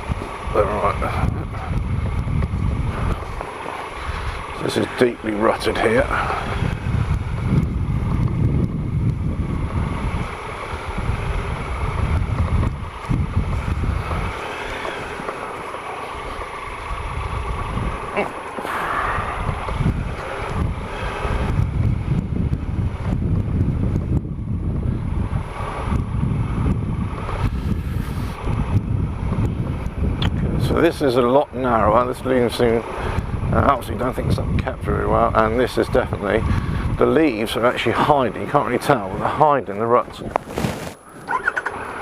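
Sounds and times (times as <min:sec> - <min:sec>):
motorcycle engine rumble: 0:00.0 - 0:42.0
wind buffeting microphone: 0:00.0 - 0:42.0.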